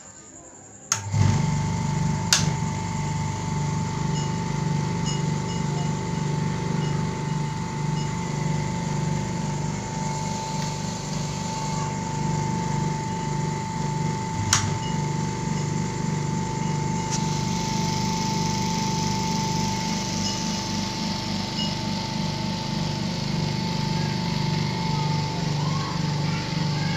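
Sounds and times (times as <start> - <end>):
steady high whine: 1.0 - 26.9
polishing machine motor hum: 1.1 - 26.9.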